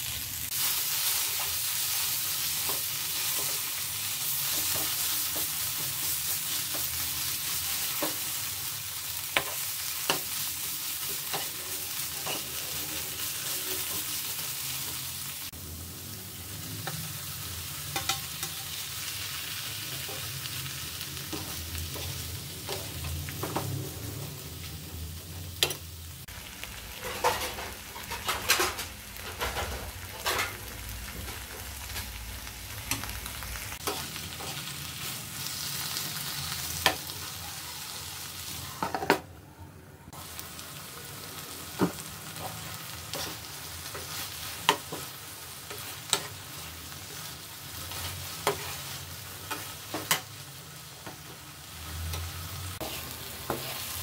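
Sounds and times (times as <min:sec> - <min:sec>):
food sizzling in frying pan: 0:00.0 - 0:39.2, 0:40.1 - 0:54.0.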